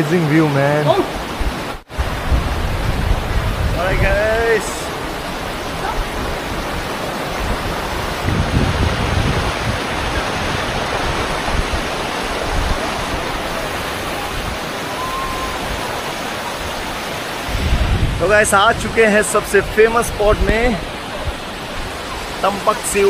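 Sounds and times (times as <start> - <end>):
waterfall and river rushing: 0.0 - 23.0.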